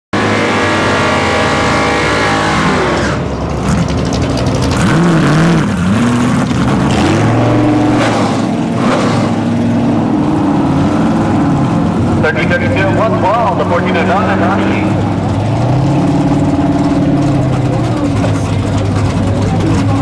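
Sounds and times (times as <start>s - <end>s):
drag car engine revving: 0.2s - 20.0s.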